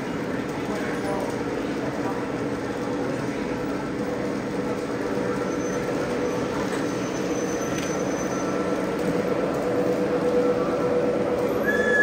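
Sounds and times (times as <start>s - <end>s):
model train humming and whining: 0.0s - 12.0s.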